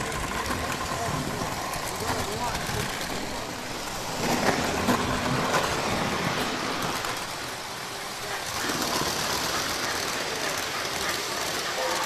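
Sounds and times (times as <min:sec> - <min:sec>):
indistinct chatter: 0:00.0 - 0:12.0.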